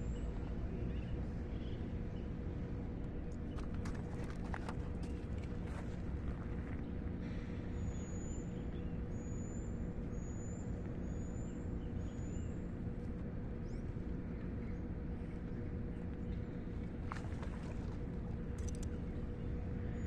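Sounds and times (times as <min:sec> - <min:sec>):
faint steady hum: 0:00.0 - 0:20.0
low outdoor rumble: 0:00.0 - 0:20.0.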